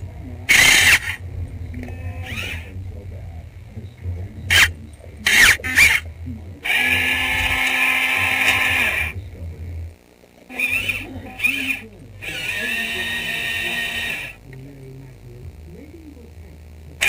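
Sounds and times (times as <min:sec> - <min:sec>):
electric motors whirring: 0:00.0 - 0:17.0.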